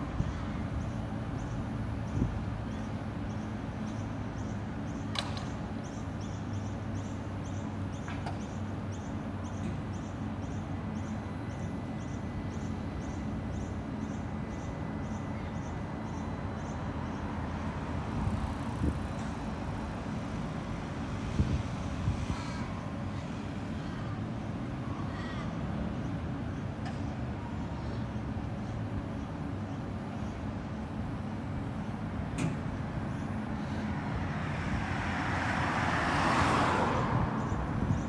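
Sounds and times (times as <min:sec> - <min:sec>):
tram humming: 0:00.0 - 0:38.0.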